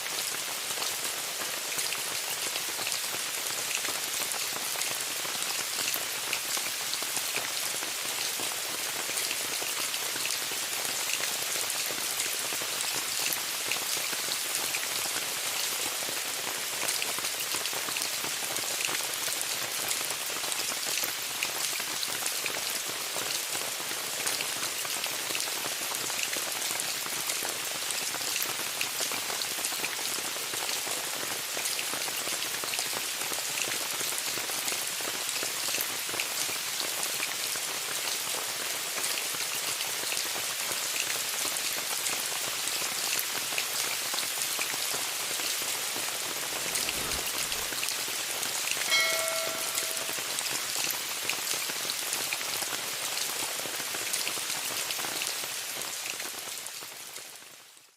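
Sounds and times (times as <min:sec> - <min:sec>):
rain falling on a tent: 0:00.0 - 0:57.9.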